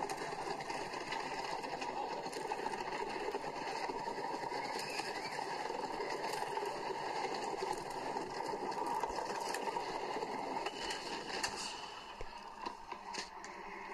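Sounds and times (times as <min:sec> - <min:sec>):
roller coaster rumbling: 0:00.0 - 0:13.9.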